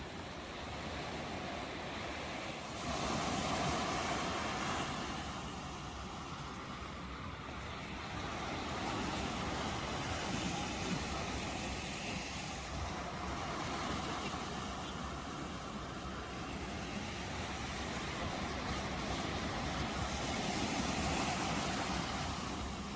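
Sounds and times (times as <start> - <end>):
ocean waves washing in: 0.0 - 22.9.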